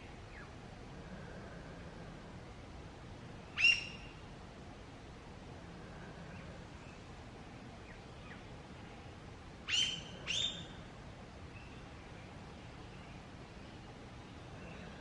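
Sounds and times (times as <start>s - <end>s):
quiet forest background: 0.0s - 15.0s.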